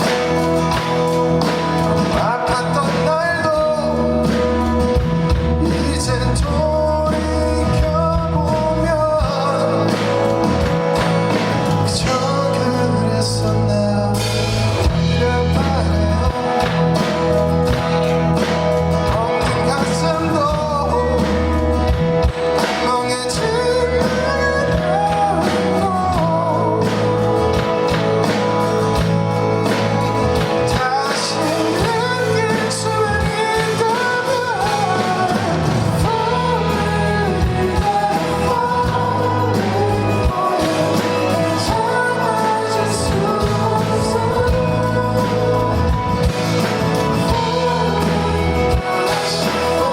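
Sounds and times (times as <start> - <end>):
live band playing: 0.0 - 49.9
man singing: 0.0 - 49.9.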